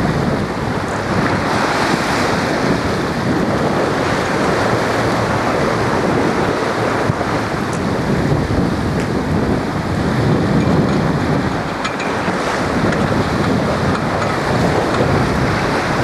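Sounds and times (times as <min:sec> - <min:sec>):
water rushing along boat hull: 0:00.0 - 0:16.0
wind buffeting microphone: 0:00.0 - 0:16.0.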